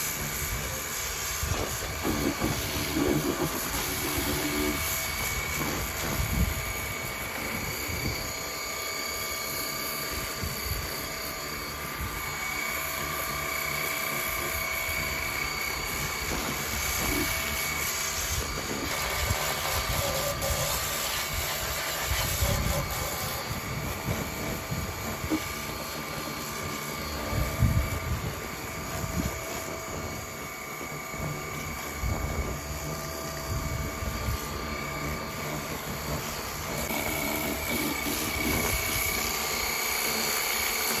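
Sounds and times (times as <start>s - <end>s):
pressure washer motor whine: 0.0s - 41.0s
water jet hissing: 0.0s - 41.0s.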